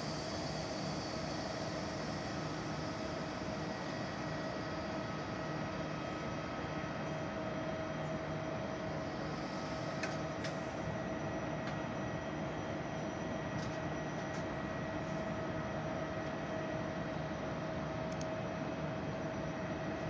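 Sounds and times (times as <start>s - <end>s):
train equipment hum: 0.0s - 20.0s.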